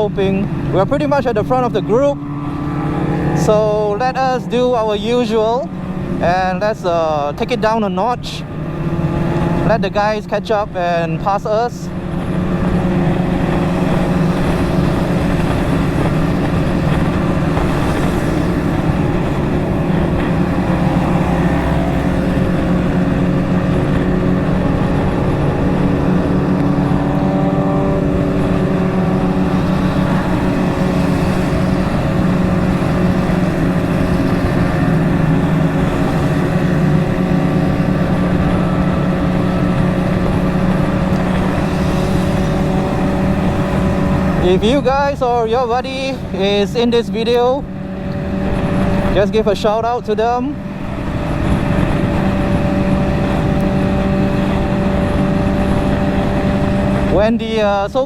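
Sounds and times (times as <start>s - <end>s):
motorcycle engine cruising: 0.0s - 58.0s
motorcycles passing: 0.0s - 58.0s
wind rush: 0.0s - 58.0s.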